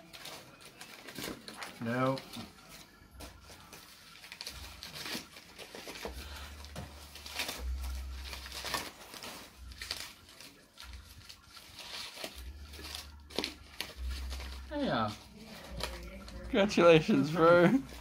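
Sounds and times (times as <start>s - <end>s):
paper rustling and crumpling: 0.0s - 18.0s.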